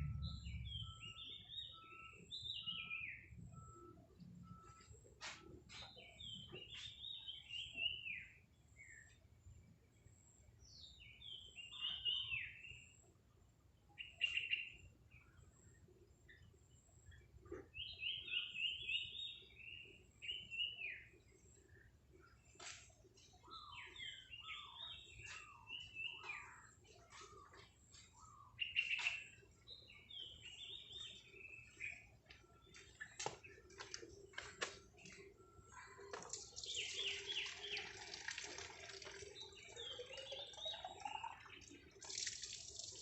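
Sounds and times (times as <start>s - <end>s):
bird chirping song: 0.0s - 43.0s.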